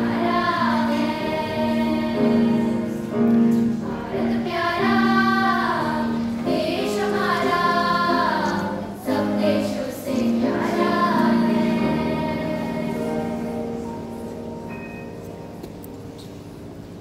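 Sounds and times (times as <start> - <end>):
children's choir singing: 0.0 - 14.8.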